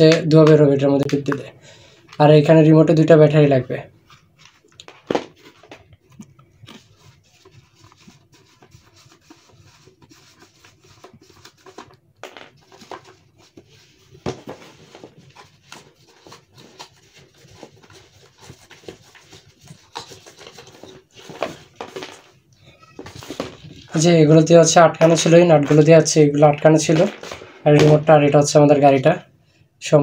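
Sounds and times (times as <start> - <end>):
cardboard packaging being handled: 4.1 - 29.1.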